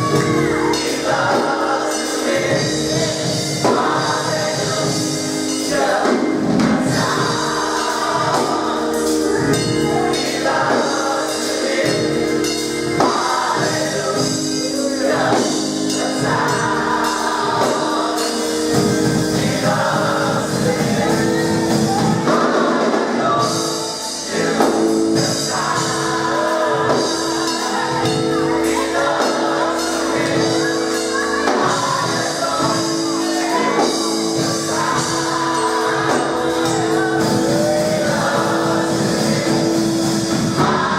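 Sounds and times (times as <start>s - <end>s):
band accompaniment: 0.0s - 40.9s
gospel choir singing: 0.0s - 40.9s.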